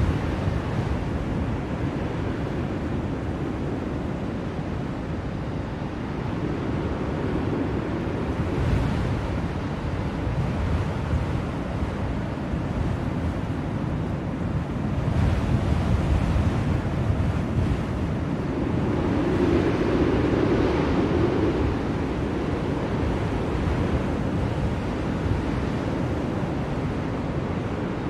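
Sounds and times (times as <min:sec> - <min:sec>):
blizzard wind blowing: 0:00.0 - 0:28.0.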